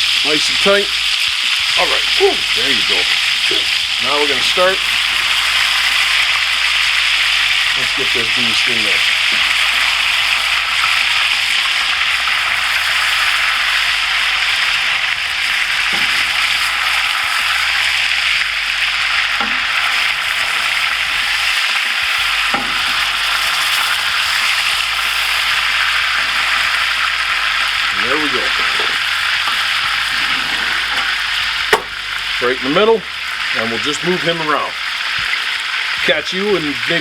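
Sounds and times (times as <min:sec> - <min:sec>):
burger patty sizzling in pan: 0:00.0 - 0:37.0.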